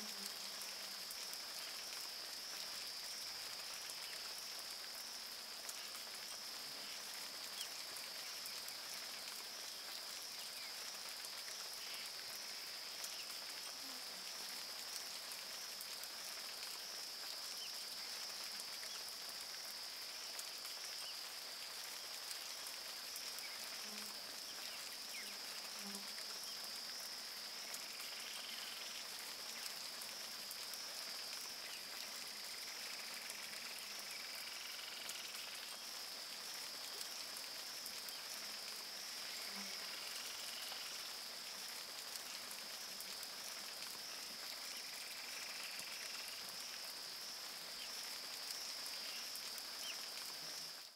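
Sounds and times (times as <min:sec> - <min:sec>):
even hiss: 0:00.0 - 0:50.9.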